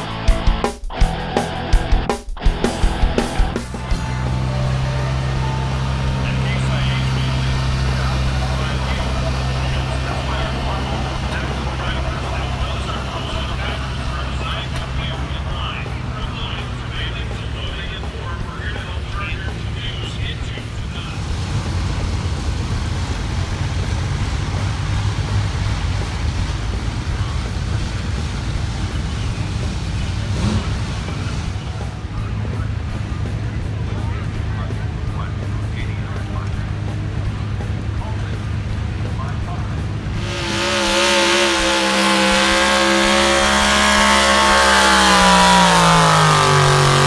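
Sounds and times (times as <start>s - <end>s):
vehicle engine rumbling: 2.6s - 47.0s.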